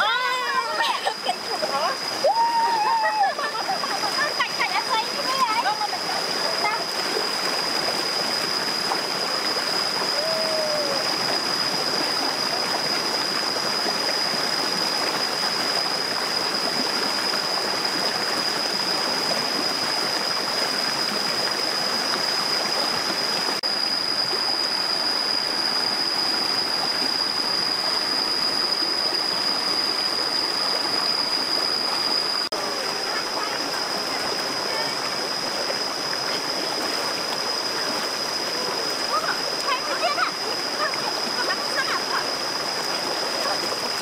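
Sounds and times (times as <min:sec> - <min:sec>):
stream rushing over stones: 0:00.0 - 0:44.0.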